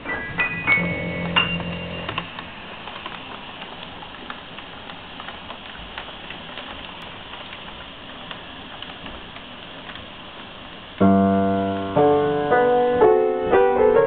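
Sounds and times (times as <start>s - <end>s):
piano player airy hiss: 0.0s - 14.0s.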